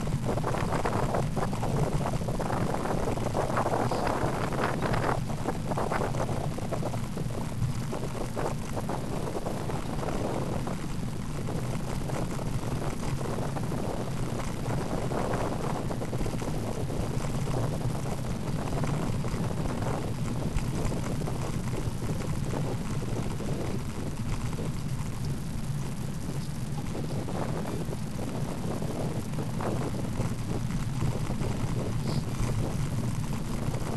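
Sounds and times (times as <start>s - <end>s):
low rumble of bicycle: 0.0s - 33.9s
wind buffeting microphone: 0.0s - 33.9s.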